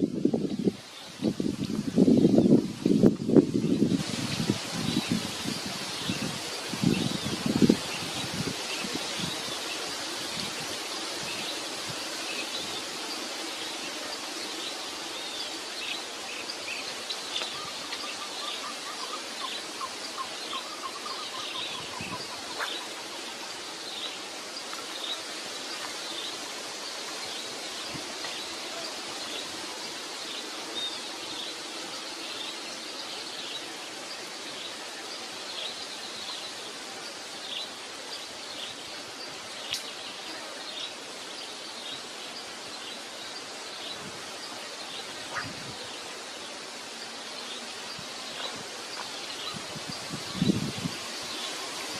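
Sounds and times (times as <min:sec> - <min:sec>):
steady outdoor hiss: 0:00.0 - 0:51.9
small birds chirping: 0:03.5 - 0:51.9.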